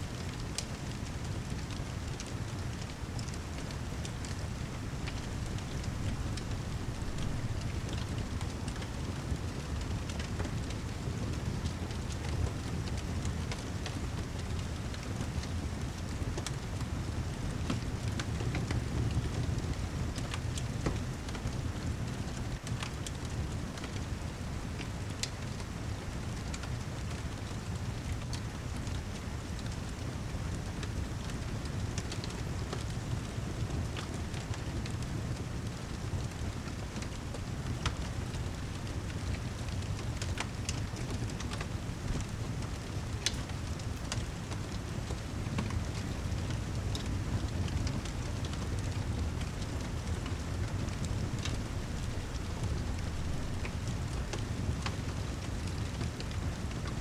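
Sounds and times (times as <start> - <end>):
heavy rain: 0.0 - 57.0
fireplace crackling and popping: 0.1 - 57.0.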